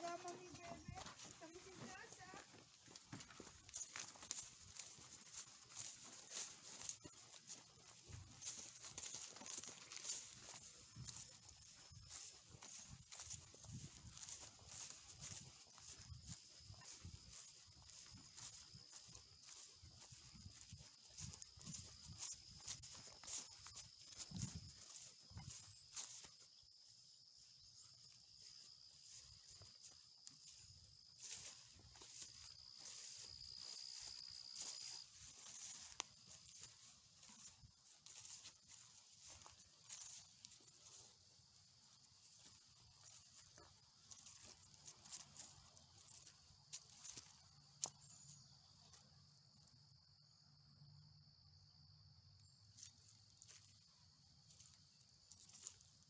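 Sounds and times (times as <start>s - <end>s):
high thin insect drone: 0.0s - 49.5s
footsteps through grass: 0.0s - 49.9s, 52.4s - 56.0s.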